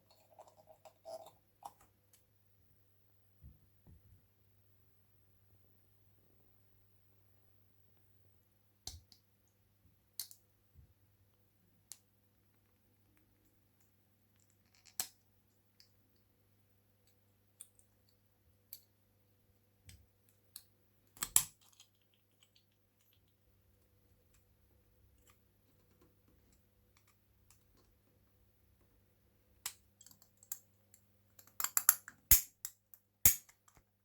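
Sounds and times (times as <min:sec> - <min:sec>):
faint low hum: 0:00.0 - 0:31.5.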